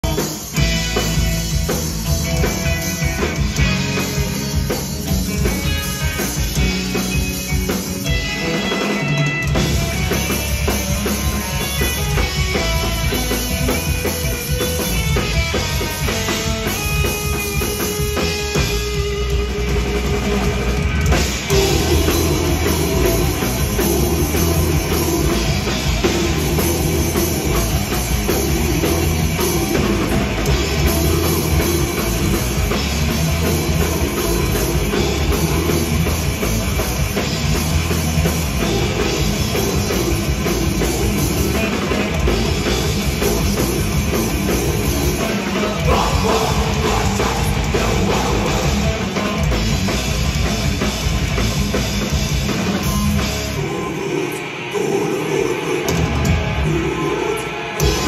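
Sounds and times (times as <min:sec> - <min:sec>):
bass guitar: 0:00.0 - 0:54.6, 0:55.8 - 0:58.0
distorted electric guitars: 0:00.0 - 0:58.0
pounding drum kit: 0:00.0 - 0:58.0.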